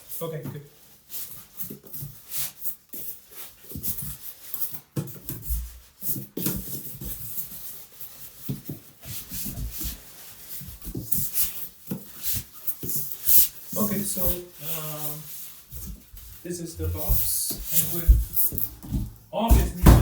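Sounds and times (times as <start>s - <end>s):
styrofoam and cardboard rubbing: 0.0s - 20.0s.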